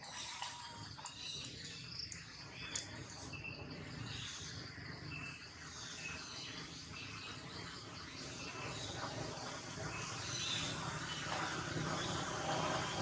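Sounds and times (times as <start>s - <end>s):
insects chirping: 0.0s - 12.8s.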